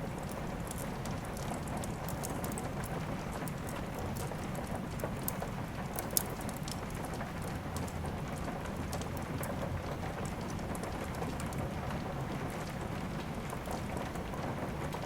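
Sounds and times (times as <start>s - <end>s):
steady rain: 0.0s - 15.0s
wood fire crackling and popping: 0.1s - 15.0s.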